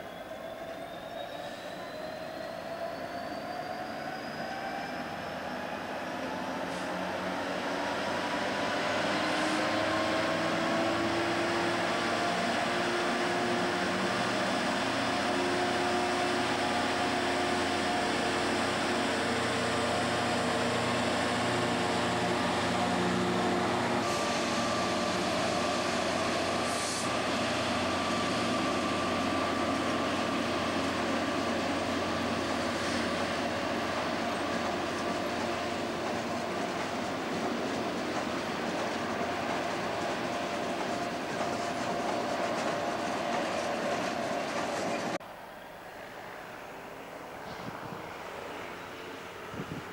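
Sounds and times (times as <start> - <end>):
diesel locomotive engine: 0.0 - 49.9.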